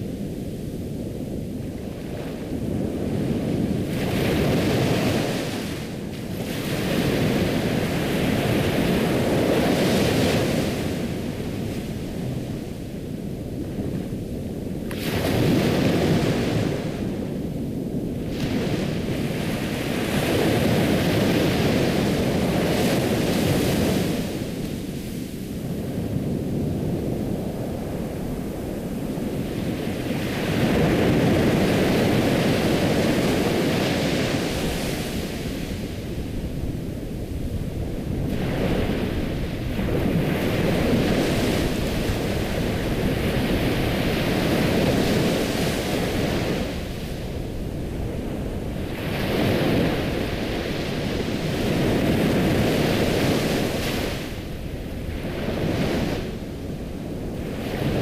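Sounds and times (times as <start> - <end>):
ocean waves washing in: 0.0 - 58.0.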